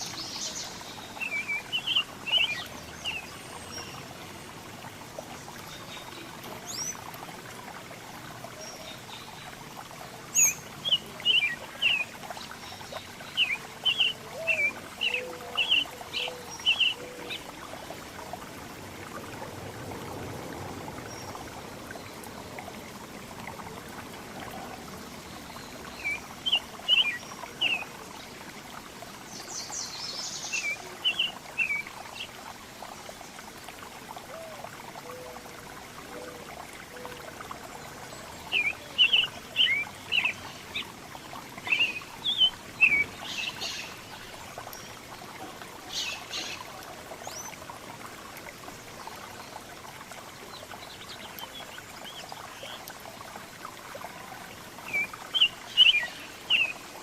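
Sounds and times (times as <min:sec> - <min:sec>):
small songbirds chirping: 0:00.0 - 0:07.1, 0:08.5 - 0:18.6, 0:24.8 - 0:33.4, 0:37.1 - 0:57.0.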